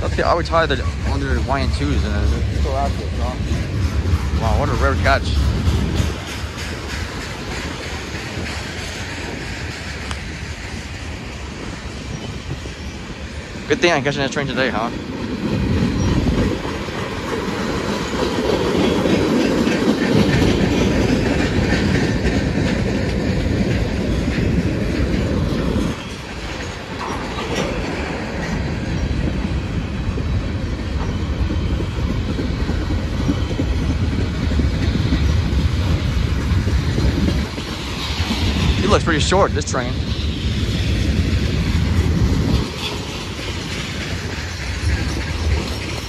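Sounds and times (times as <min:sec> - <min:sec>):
freight train wheels on rails: 0:00.0 - 0:46.0.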